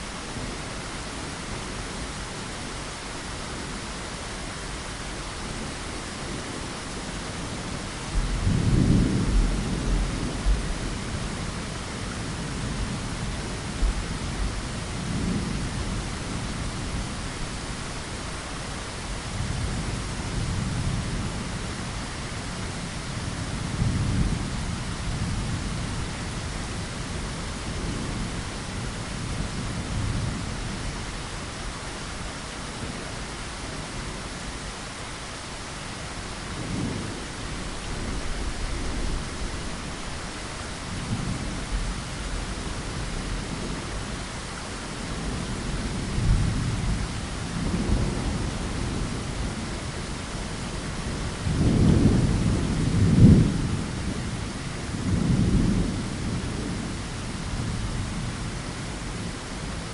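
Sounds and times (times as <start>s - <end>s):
steady rain falling: 0.0s - 59.9s
low rolling thunder: 5.4s - 31.8s, 36.3s - 59.9s.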